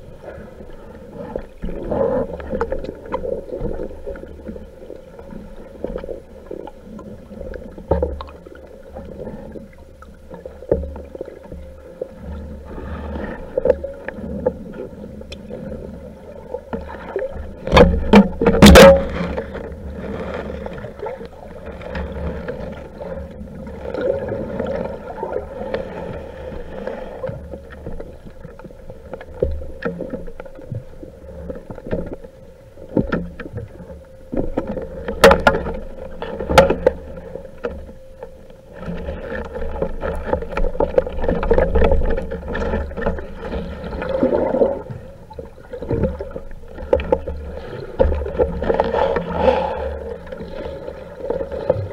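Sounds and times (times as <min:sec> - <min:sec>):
muffled underwater noise: 0:00.0 - 0:51.9.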